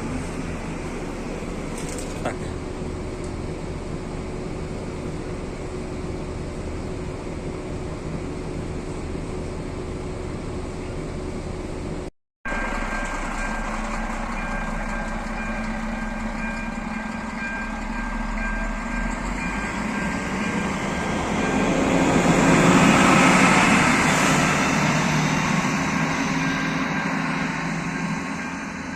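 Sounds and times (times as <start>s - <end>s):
passenger train rumbling on rails: 0.0s - 28.9s.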